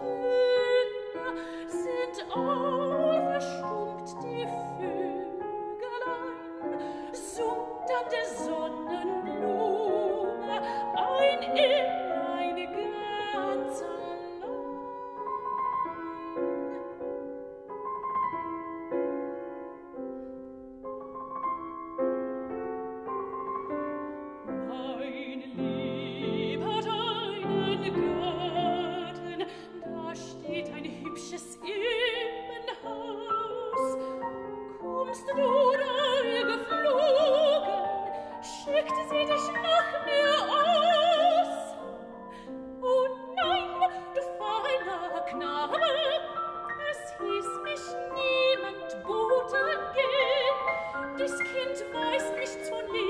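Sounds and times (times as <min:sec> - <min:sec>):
soprano singing with vibrato: 0:00.0 - 0:17.4, 0:23.7 - 0:53.0
grand piano: 0:00.0 - 0:53.0.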